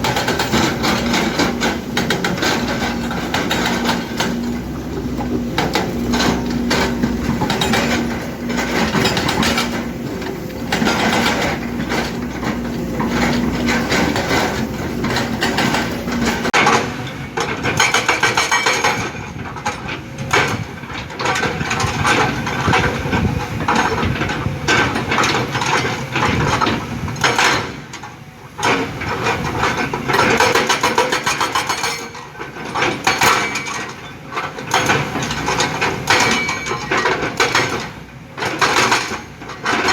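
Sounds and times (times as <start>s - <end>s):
excavator engine hum: 0.0s - 39.9s.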